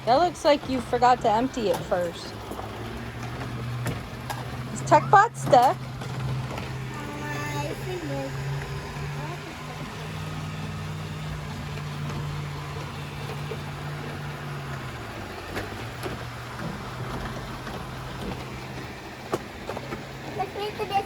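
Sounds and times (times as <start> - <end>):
robot vacuum motor hum: 0.2 - 19.7.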